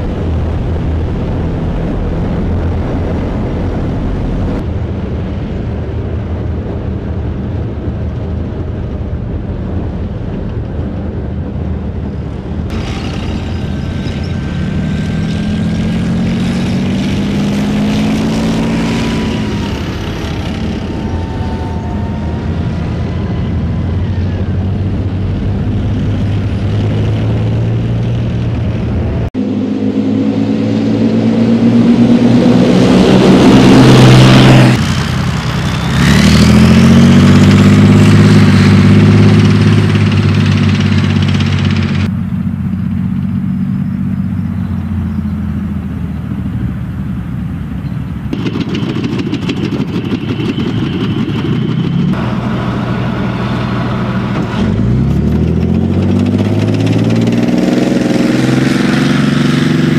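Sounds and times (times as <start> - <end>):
tank engines revving: 0.0 - 59.9.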